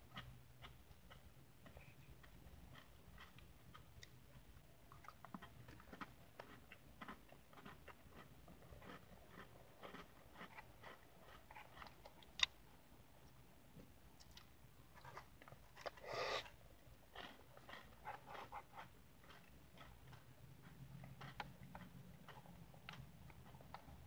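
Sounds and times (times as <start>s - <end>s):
chewing with mouth clicks: 0.1s - 12.6s, 17.1s - 24.0s.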